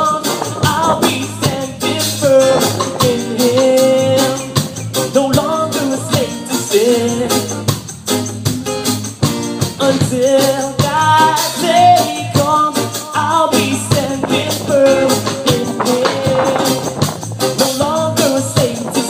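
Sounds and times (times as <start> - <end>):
man singing: 0.0 - 7.8, 9.7 - 19.0
live band playing: 0.0 - 19.0.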